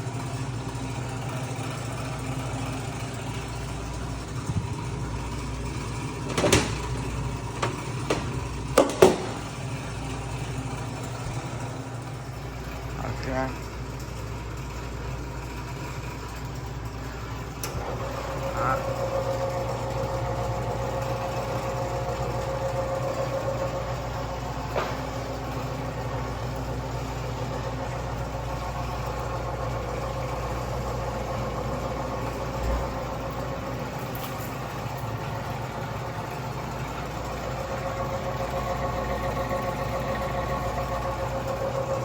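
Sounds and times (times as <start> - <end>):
meat slicer motor humming: 0.0 - 42.0.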